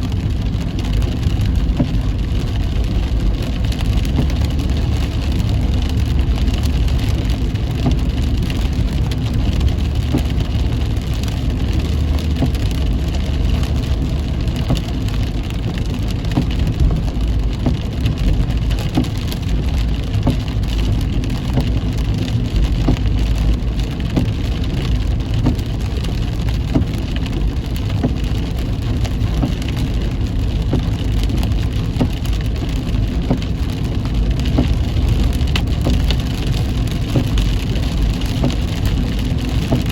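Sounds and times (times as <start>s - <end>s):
rain pattering on a car: 0.0s - 39.9s
road and engine rumble: 0.0s - 39.9s.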